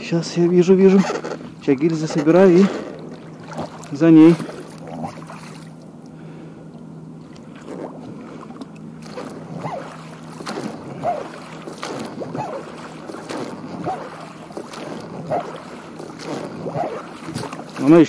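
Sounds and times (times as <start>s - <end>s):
steady low hum: 0.0s - 18.0s
oar strokes: 0.4s - 5.8s, 7.2s - 18.0s.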